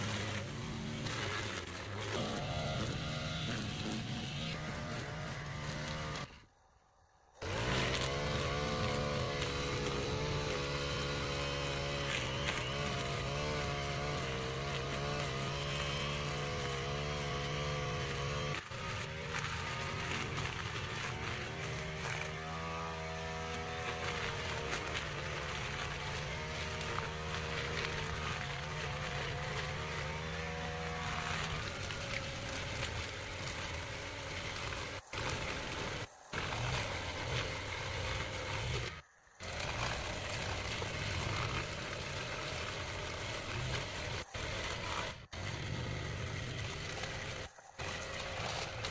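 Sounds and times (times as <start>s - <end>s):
brush cutter engine cutting grass: 0.0s - 6.6s, 7.3s - 48.9s.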